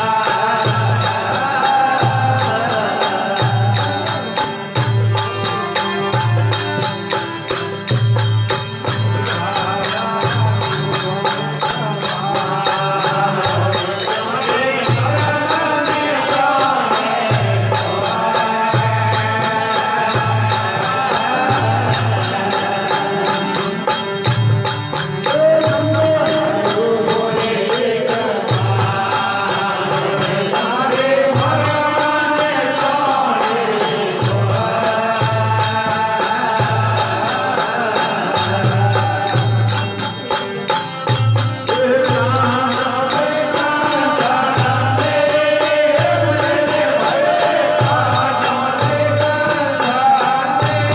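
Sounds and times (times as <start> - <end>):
chant-like devotional singing: 0.0 - 50.9
jingling percussion: 0.0 - 50.9.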